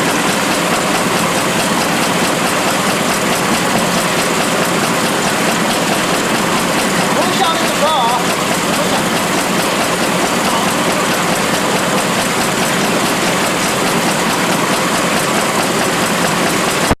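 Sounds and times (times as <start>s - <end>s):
machine running noise: 0.0s - 17.0s
wash water rushing: 0.0s - 17.0s.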